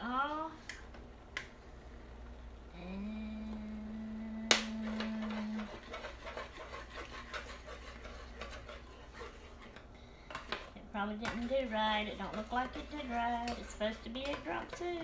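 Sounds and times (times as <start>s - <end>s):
steady pitched hum: 0.0s - 15.0s.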